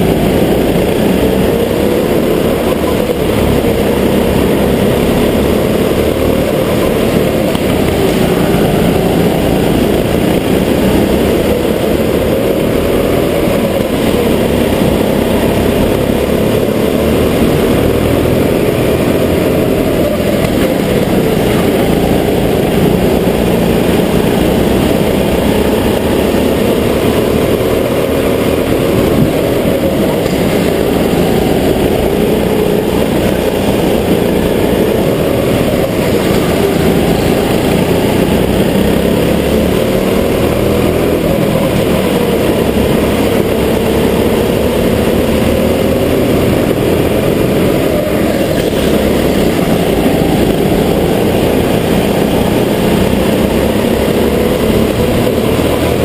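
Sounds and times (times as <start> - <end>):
go-kart engines revving: 0.0 - 56.0.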